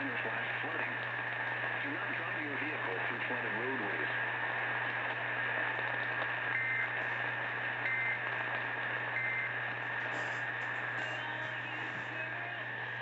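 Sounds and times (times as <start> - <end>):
radio static with steady whine: 0.0 - 13.0.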